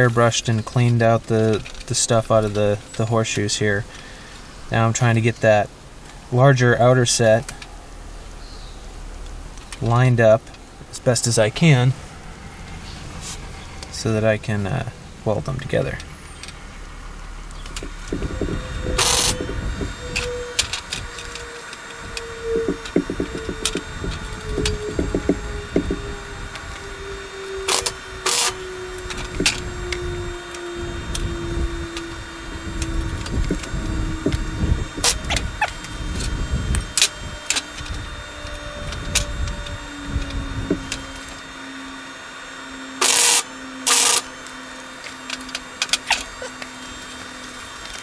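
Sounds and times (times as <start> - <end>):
wire welder bursts: 9.0 - 48.0.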